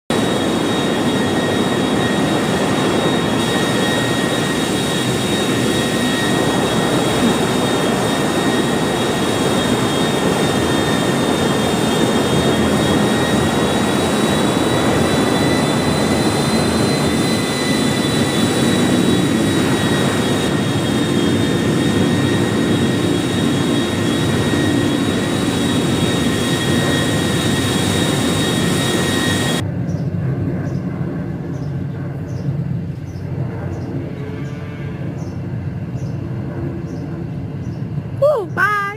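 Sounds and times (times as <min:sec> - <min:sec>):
high engine whine: 0:00.1 - 0:38.8
aircraft engines roaring: 0:00.1 - 0:38.9.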